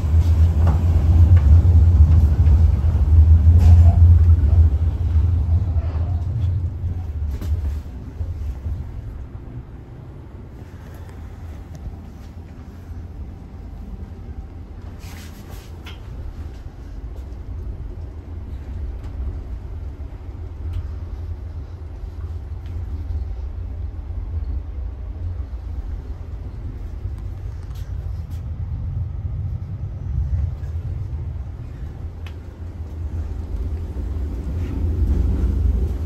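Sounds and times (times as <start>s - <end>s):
train rumble inside coach: 0.0s - 36.0s.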